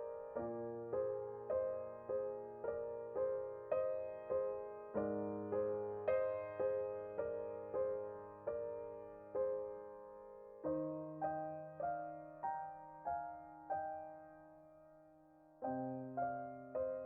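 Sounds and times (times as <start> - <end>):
slow solo piano piece: 0.0 - 17.0.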